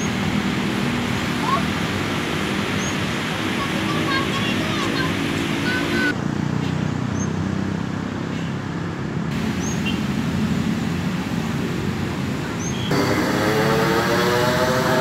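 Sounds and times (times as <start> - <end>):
outdoor traffic noise: 0.0 - 15.0.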